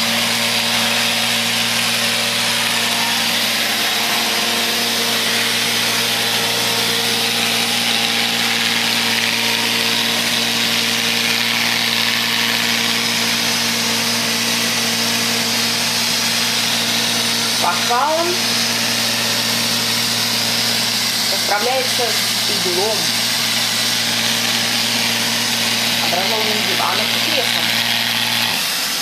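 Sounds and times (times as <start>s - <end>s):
robot vacuum cleaner running: 0.0s - 29.0s.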